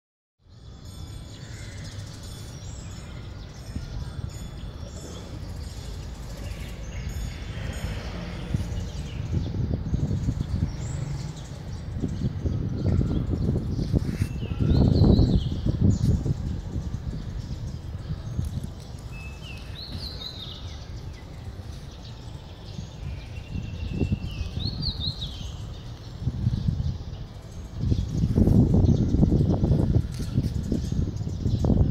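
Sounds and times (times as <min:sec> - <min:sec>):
songbird singing: 0:00.4 - 0:31.9
small birds chirping: 0:00.5 - 0:31.9.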